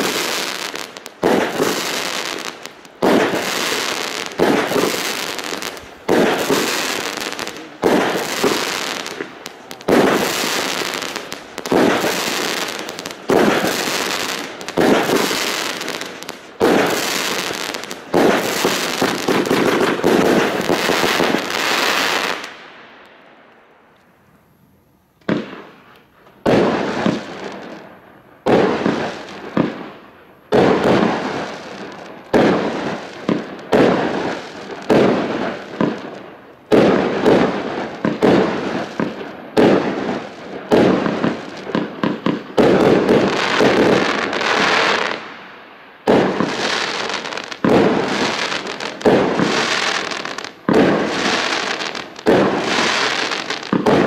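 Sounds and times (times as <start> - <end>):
fireworks bangs: 0.0 - 23.4, 25.2 - 54.0.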